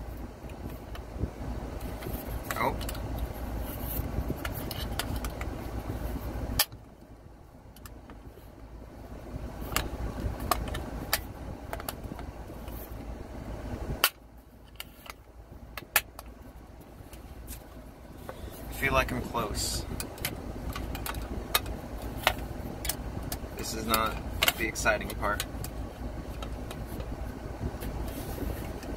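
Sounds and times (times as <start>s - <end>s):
low background rumble: 0.0s - 28.9s.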